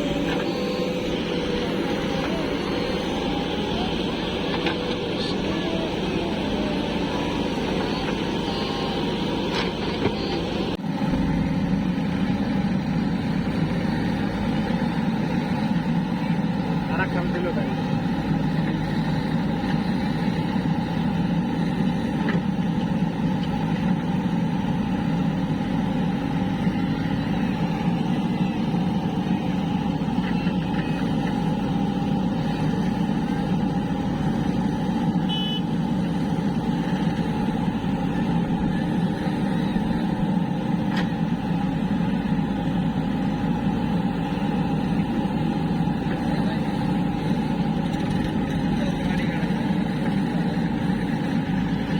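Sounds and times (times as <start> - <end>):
heavy diesel engine drone: 0.0 - 51.9.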